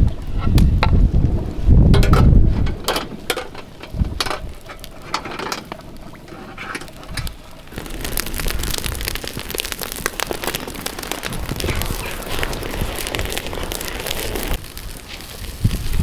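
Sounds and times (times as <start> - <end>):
cooking fire crackling and sizzling: 0.0 - 16.0
low wind rumble: 0.0 - 16.0.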